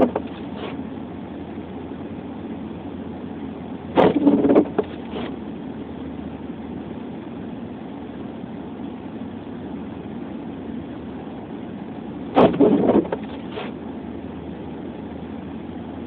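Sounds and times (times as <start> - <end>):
car engine hum from inside: 0.0 - 16.0.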